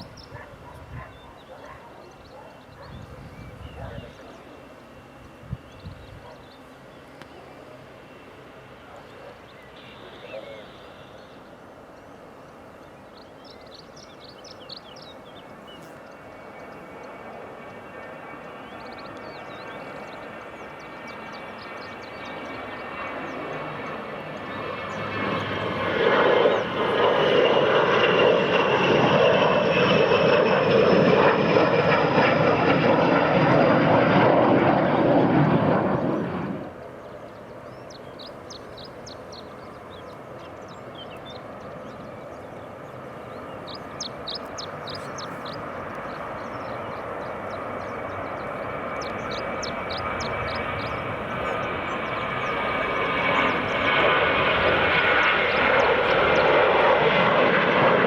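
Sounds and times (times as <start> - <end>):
jet engines with high whine: 0.0 - 58.0.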